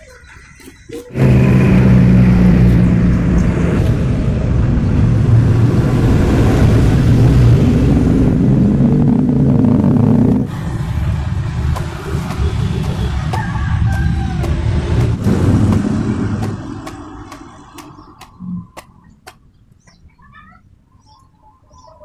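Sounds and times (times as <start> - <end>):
vehicle engine rumbling: 0.0 - 20.9.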